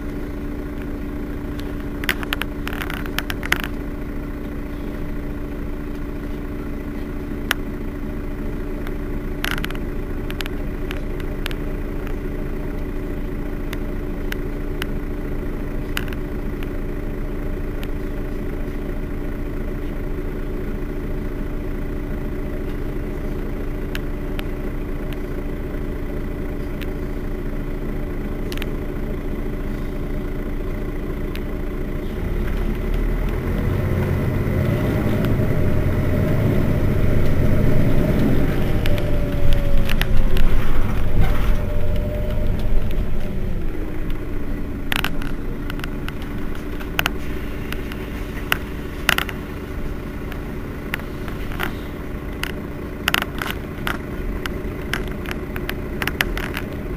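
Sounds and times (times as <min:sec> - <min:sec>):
bus engine idling: 0:00.0 - 0:56.9
constant hum: 0:00.0 - 0:56.9.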